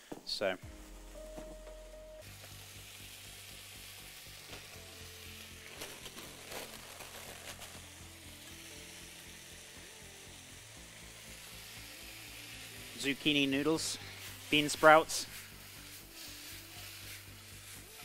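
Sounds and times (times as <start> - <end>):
stir-fry sizzling in pan: 2.2 - 18.0.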